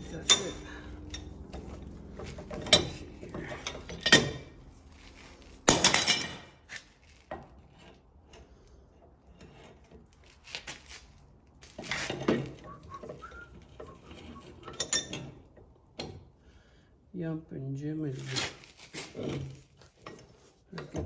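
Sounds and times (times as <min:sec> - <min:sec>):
metal tools clanking: 0:00.0 - 0:10.1, 0:11.7 - 0:16.3, 0:18.2 - 0:21.0.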